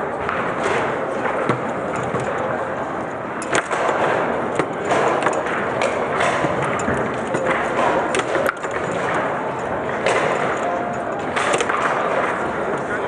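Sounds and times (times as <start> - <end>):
foosball ball clacking: 0.0 - 12.8
background hubbub: 0.0 - 13.0.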